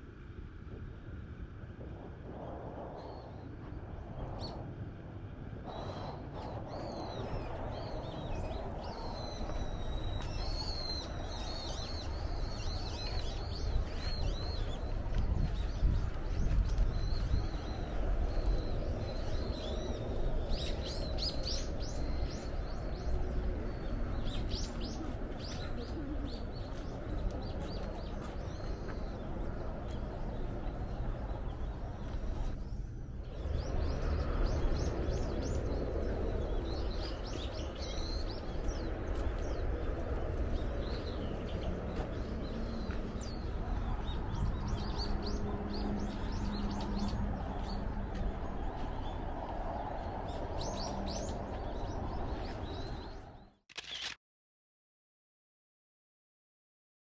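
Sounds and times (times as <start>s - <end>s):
steady low rumble: 0.0s - 53.5s
small birds chirping: 5.7s - 54.2s.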